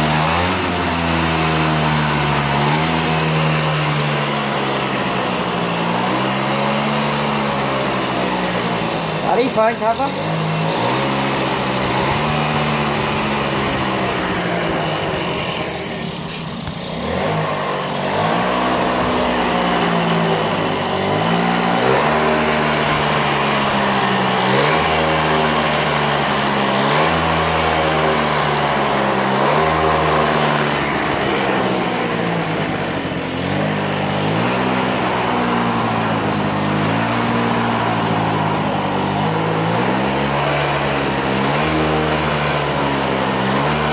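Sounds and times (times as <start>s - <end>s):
moped engine revving: 0.0s - 43.9s.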